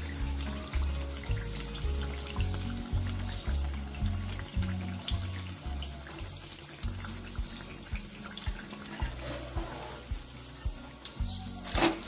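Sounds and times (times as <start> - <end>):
background music with bass beat: 0.0 - 12.0
eggplant frying in hot oil: 0.0 - 12.0.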